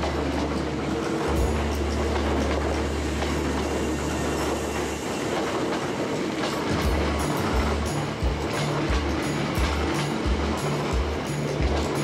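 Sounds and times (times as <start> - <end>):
electric train running gear hum: 0.0 - 12.0
train wheels clacking over rail joints: 0.0 - 12.0.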